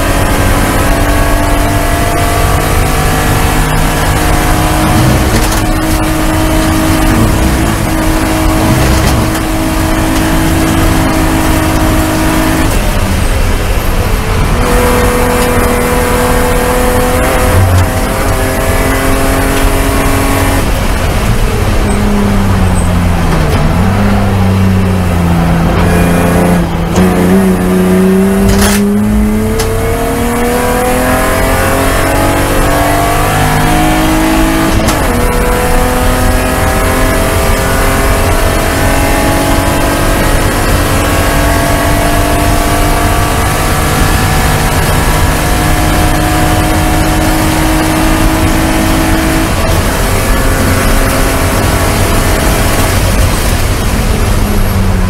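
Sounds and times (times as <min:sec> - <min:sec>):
race car engine revving: 0:00.0 - 0:55.0
road and wind noise: 0:00.0 - 0:55.0.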